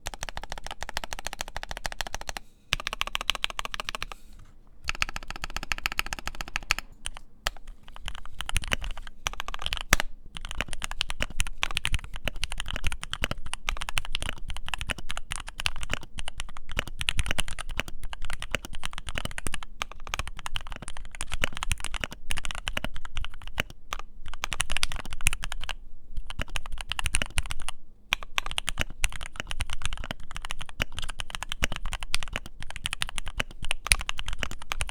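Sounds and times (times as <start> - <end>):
mechanical keyboard typing: 0.0 - 4.2, 4.8 - 34.9.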